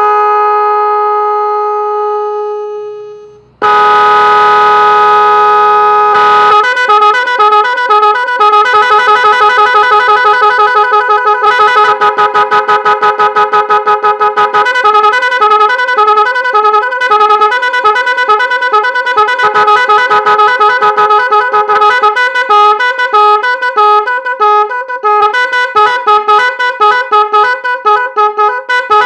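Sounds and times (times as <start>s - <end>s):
multi-tone vehicle horn: 0.0s - 29.0s
warbling horn pulses: 0.0s - 29.0s.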